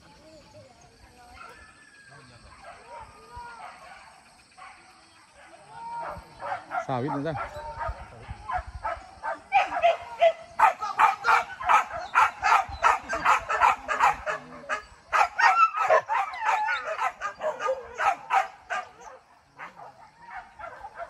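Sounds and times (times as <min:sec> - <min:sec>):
dogs yelping and barking: 0:01.3 - 0:21.0.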